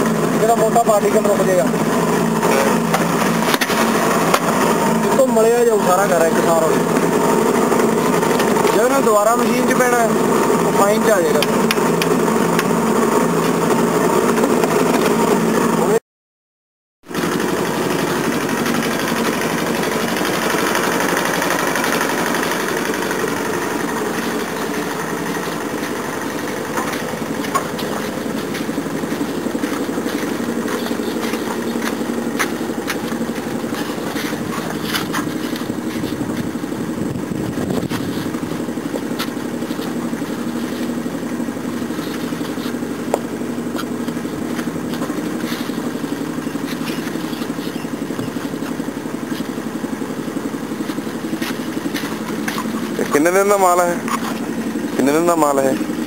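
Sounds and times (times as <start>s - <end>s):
engine humming steadily: 0.0s - 16.0s, 17.0s - 56.0s.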